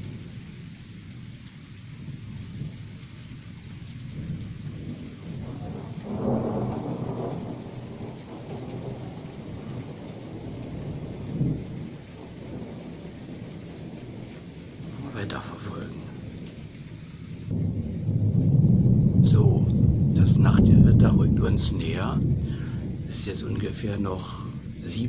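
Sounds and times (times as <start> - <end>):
distant thunder rolling: 0.0 - 25.0
light rain: 0.0 - 25.0.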